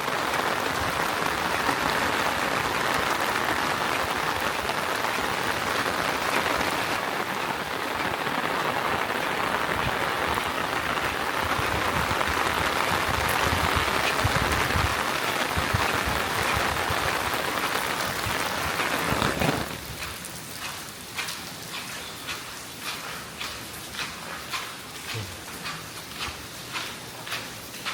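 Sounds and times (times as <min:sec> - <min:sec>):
heavy rain hiss: 0:00.0 - 0:20.4, 0:24.8 - 0:27.1
rain patter and drips: 0:00.0 - 0:27.9.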